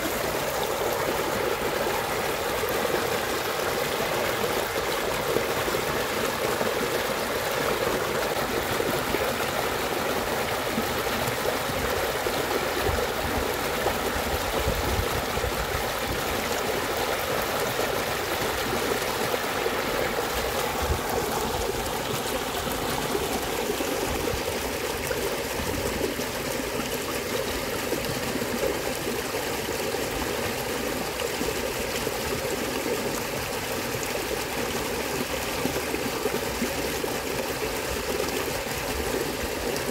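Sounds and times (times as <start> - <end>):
stream trickling over dirt: 0.0 - 39.9.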